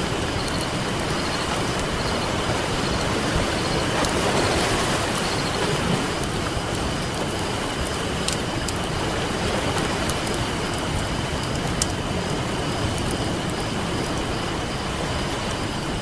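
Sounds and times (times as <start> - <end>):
ocean surf: 0.0 - 16.0
campfire crackling and popping: 0.1 - 15.0.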